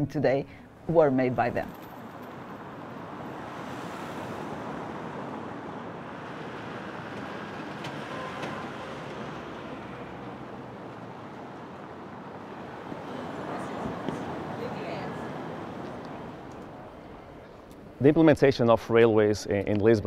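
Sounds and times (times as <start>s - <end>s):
cars passing on street: 0.0s - 18.0s.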